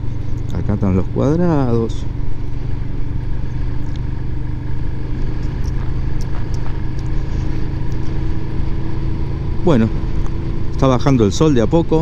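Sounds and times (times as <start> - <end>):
motorcycle engine running: 0.0 - 12.0
wind and road rumble: 0.0 - 12.0.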